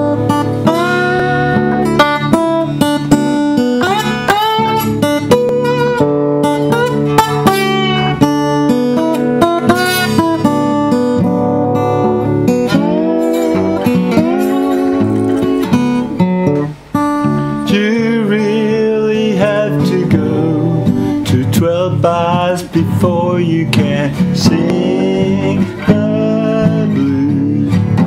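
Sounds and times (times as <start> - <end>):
acoustic guitar plucked and strummed: 0.0 - 28.0.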